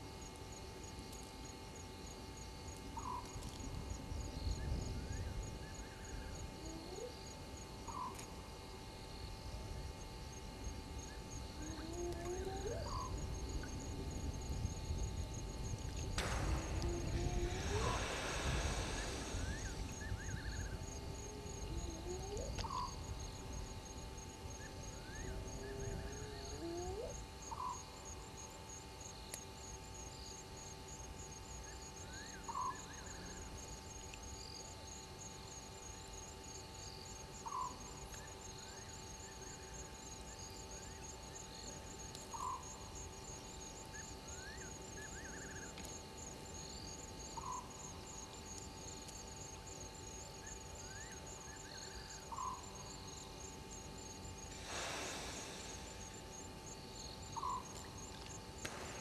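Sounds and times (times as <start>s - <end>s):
insect trill pulsing: 0.0s - 59.0s.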